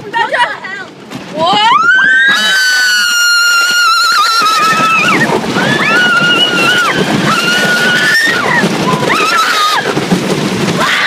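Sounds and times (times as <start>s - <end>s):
wind rushing across microphone: 0.0s - 11.0s
riders screaming: 1.5s - 11.0s.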